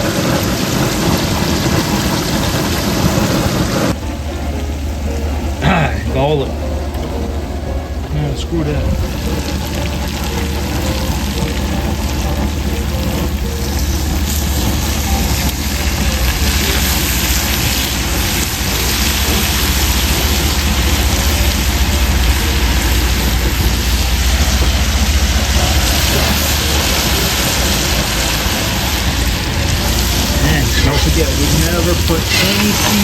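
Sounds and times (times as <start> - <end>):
sausage and onions sizzling: 0.0 - 33.0.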